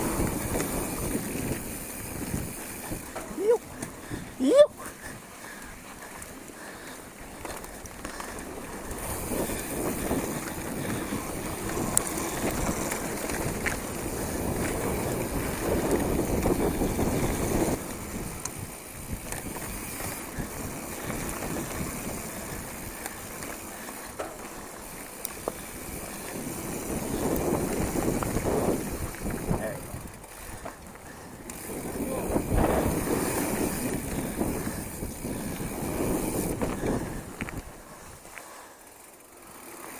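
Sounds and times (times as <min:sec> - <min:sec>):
wind buffeting microphone: 0:00.0 - 0:38.3
bike clicks and rattles: 0:00.0 - 0:39.9
bike tyres rolling over loose dirt: 0:00.0 - 0:39.9.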